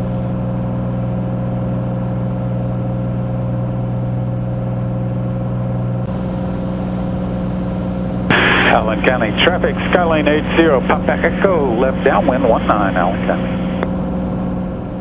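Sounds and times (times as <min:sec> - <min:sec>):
airplane engine droning: 0:00.0 - 0:15.0.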